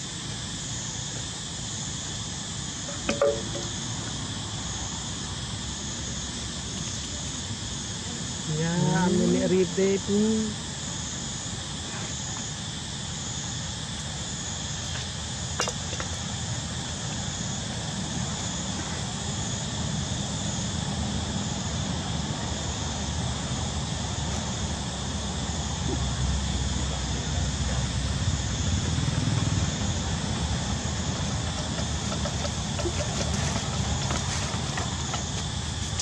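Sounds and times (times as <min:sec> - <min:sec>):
steady high hiss: 0:00.0 - 0:29.2.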